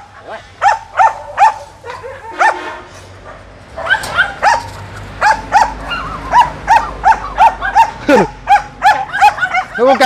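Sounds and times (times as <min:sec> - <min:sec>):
dog yelping barks: 0:00.6 - 0:10.0.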